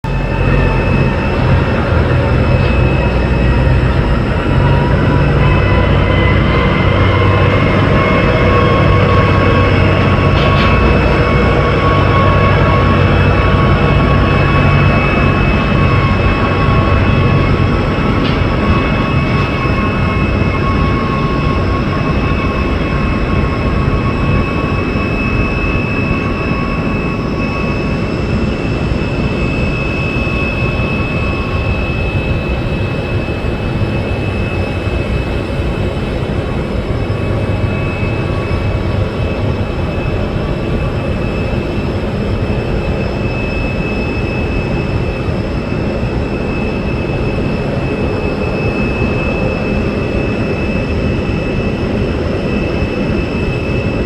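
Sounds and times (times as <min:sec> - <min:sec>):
low hum: 0:00.0 - 0:45.2
high whining tones: 0:00.0 - 0:54.0
jet engine roar: 0:00.0 - 0:54.0.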